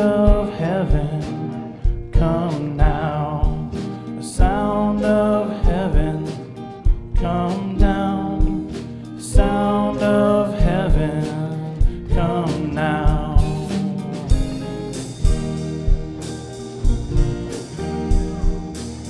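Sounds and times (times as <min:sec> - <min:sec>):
drum hits: 0:00.0 - 0:09.7, 0:11.8 - 0:19.0
electric guitar: 0:00.0 - 0:19.0.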